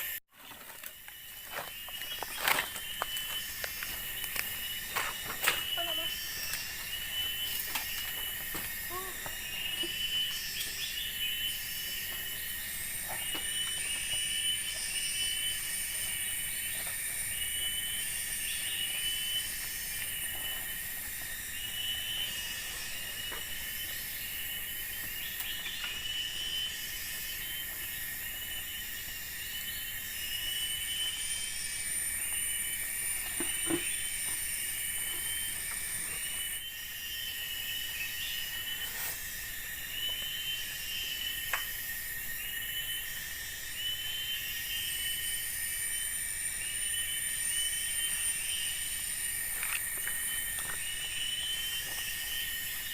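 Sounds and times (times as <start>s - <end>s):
insects whining and chirping: 0.0s - 52.9s
higher insect buzz: 1.1s - 52.9s.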